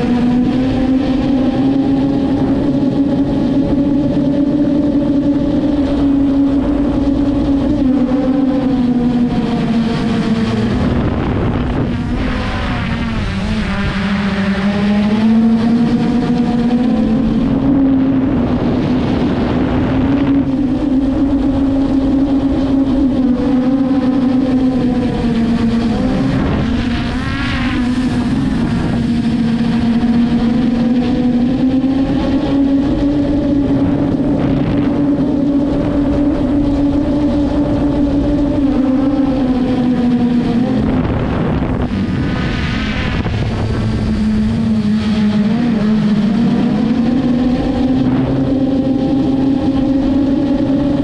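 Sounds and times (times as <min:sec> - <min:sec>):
drone propellers humming: 0:00.0 - 0:51.0
wind rush: 0:00.0 - 0:51.0.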